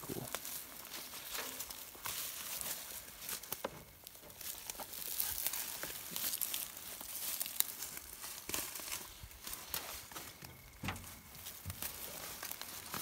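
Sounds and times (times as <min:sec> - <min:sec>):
rustling of dry pine needles: 0:00.0 - 0:13.0.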